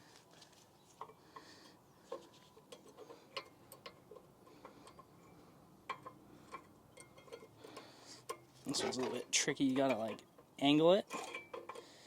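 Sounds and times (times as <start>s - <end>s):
metallic clicks of brake pads: 0.2s - 12.0s.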